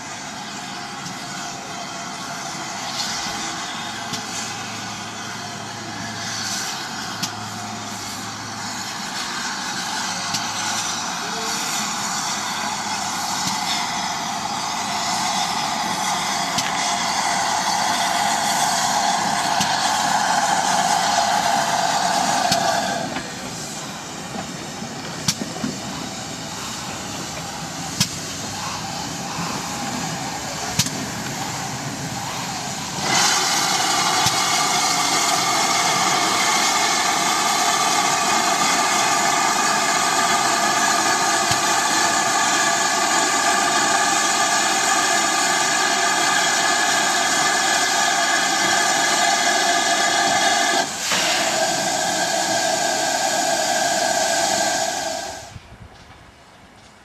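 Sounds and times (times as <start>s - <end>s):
steam locomotive hissing: 0.0s - 55.8s.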